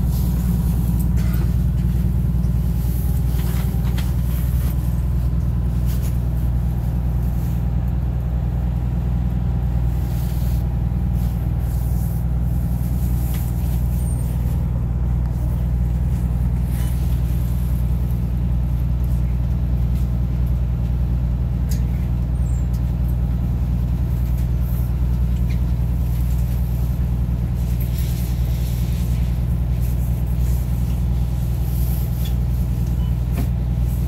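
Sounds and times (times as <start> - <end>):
bus diesel engine drone: 0.0 - 34.0.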